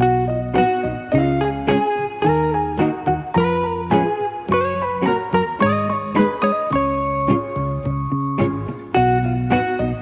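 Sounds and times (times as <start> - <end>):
bass line: 0.0 - 10.0
plucked guitar notes: 0.0 - 10.0.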